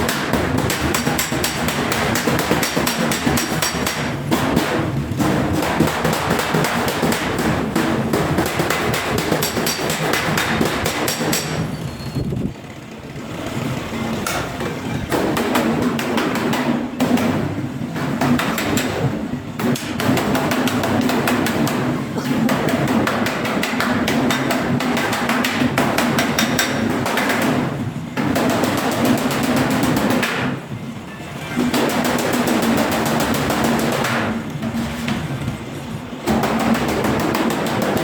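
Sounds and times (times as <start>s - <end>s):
hammer striking sheet metal: 0.0s - 11.7s, 14.2s - 30.6s, 31.5s - 35.3s, 36.2s - 38.0s.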